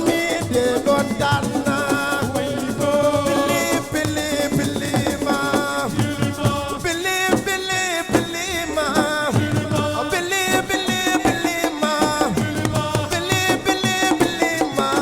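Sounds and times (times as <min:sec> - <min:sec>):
rattling shaker: 0:00.0 - 0:15.0.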